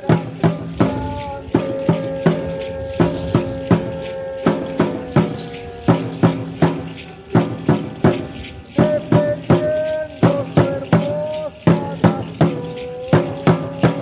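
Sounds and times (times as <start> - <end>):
drum beaten in steady rhythm: 0.0 - 14.0
held pitched tone: 0.0 - 14.0
rattles shaking: 0.0 - 14.0.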